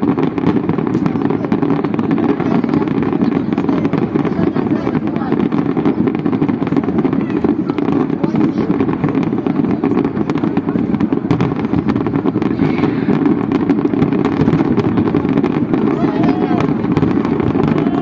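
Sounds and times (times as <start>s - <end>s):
fireworks cracking: 0.0s - 18.0s.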